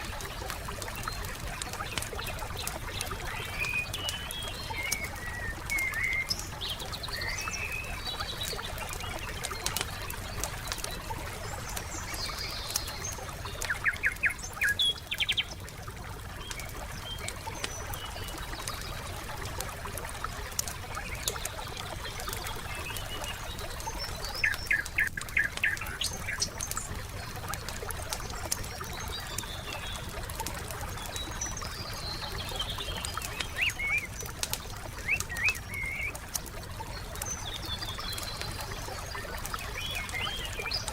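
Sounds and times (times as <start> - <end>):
songbirds calling: 0.0 - 40.9
wood fire crackling: 0.0 - 40.9.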